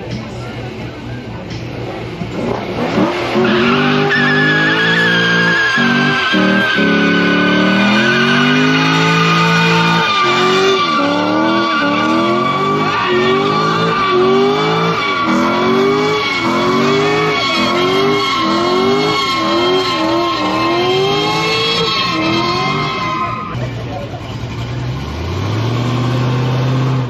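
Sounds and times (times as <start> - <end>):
car engine revving hard: 1.8 - 23.6, 24.6 - 27.0
tire squeal: 2.4 - 26.8.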